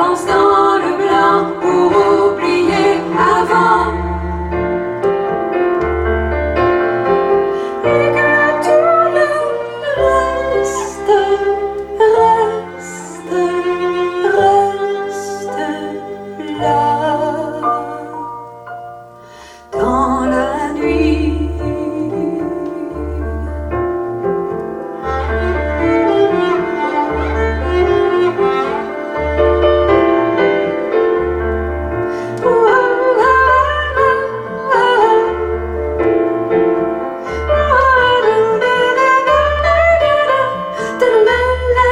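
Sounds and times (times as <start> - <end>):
cello and piano music: 0.0 - 41.9.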